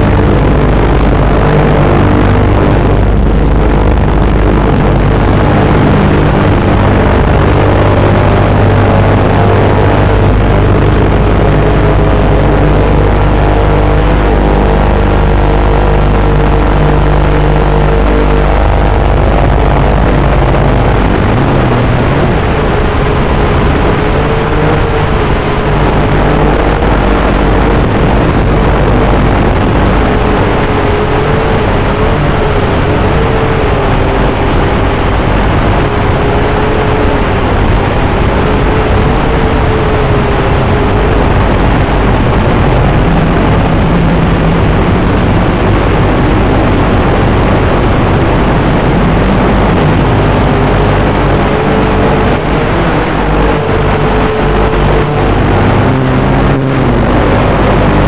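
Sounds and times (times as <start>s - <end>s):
quadcopter motors droning: 0.0s - 46.7s
low hum: 0.0s - 58.0s.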